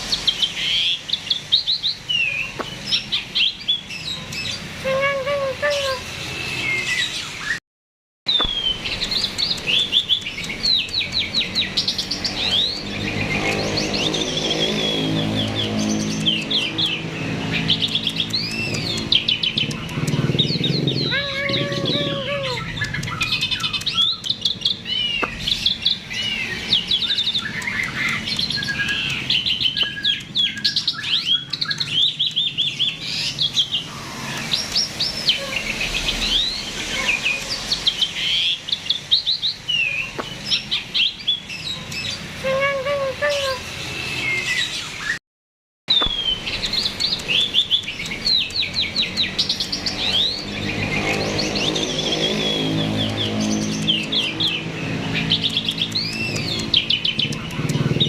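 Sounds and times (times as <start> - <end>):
starling singing: 0.0 - 7.6, 8.3 - 45.2, 45.9 - 58.0.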